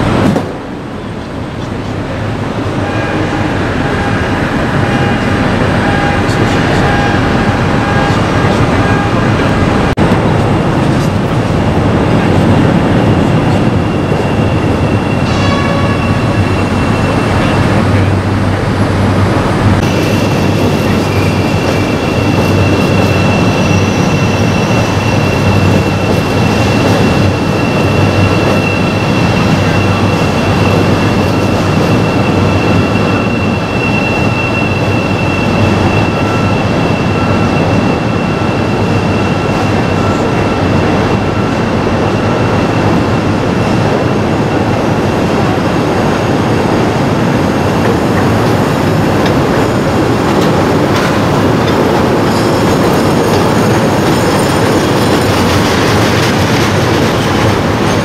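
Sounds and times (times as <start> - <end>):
high train whine: 0.0 - 58.0
wheels rumbling on rail: 0.0 - 58.0.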